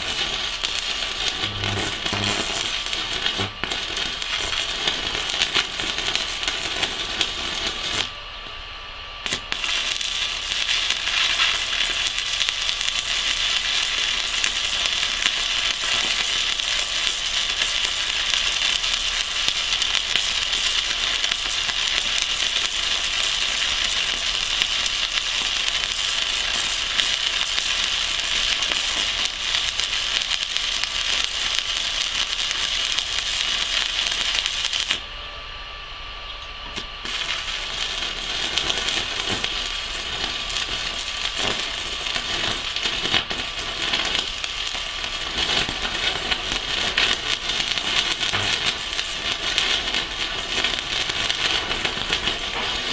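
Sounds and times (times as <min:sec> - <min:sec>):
welding arc crackling: 0:00.0 - 0:35.1, 0:36.6 - 0:52.9.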